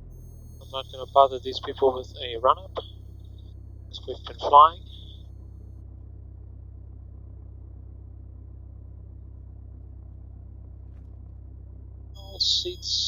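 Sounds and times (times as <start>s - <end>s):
aircraft engine drone: 0.0s - 5.4s, 6.0s - 13.0s.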